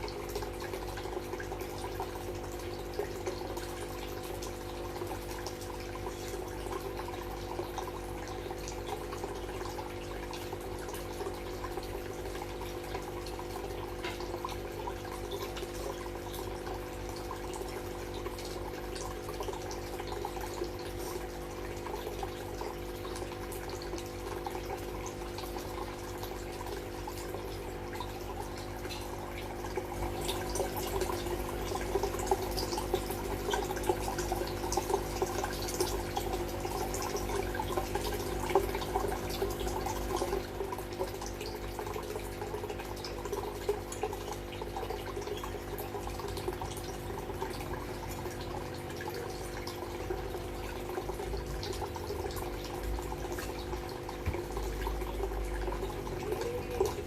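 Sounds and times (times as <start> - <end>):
pumps humming: 0.0 - 57.0
water trickling and dripping: 0.0 - 57.0.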